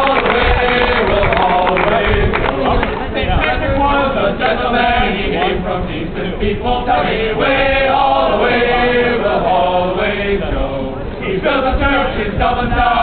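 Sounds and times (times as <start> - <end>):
men singing unaccompanied: 0.0 - 13.0.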